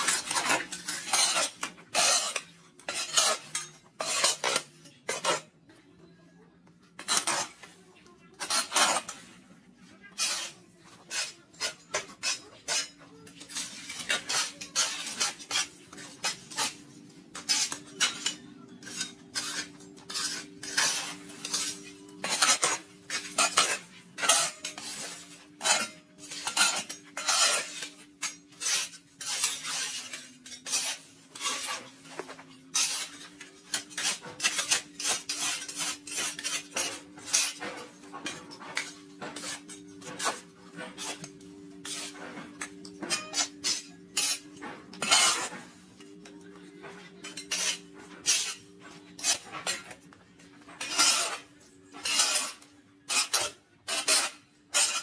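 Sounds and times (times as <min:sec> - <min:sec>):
hard objects clattering and scraping: 0:00.0 - 0:05.5, 0:08.4 - 0:09.4, 0:10.0 - 0:55.0.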